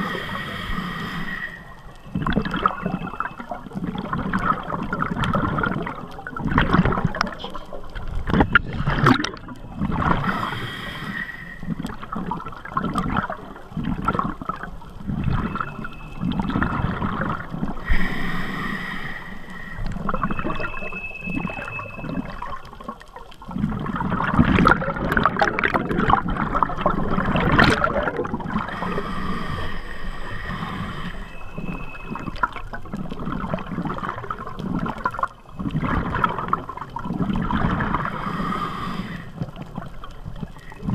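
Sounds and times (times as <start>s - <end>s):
exhaled air bubbles gurgling: 0.0s - 40.9s.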